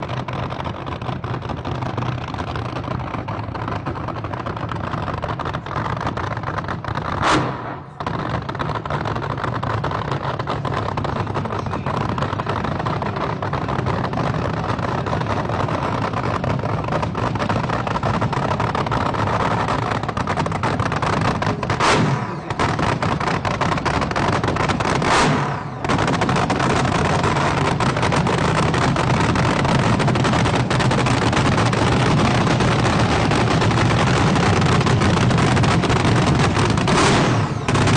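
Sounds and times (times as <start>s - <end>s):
drag racing engines roaring: 0.0s - 37.9s
loud sharp blasts: 0.0s - 37.9s.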